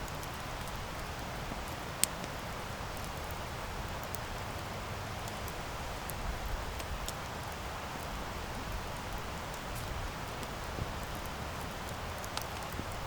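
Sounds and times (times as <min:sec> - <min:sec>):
burning wood crackling and popping: 0:00.0 - 0:13.0.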